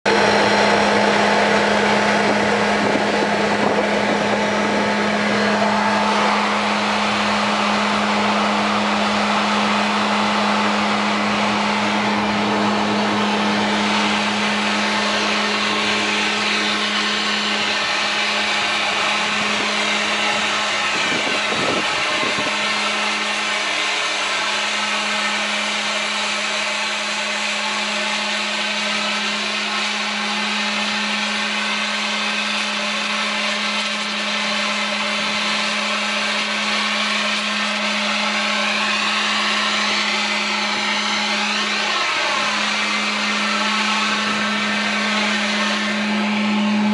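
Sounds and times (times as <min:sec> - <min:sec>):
steam boiler burner humming: 0:00.1 - 0:46.9.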